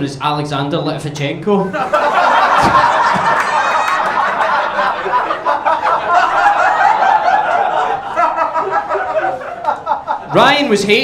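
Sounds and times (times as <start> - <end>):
audience laughing loudly: 1.7 - 10.7.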